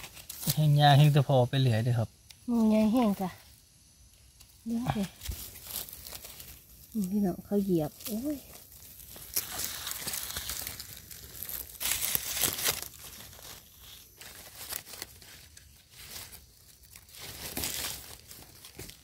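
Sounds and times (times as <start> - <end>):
dry leaves rustling and crackling: 0.0 - 1.0, 4.4 - 19.0.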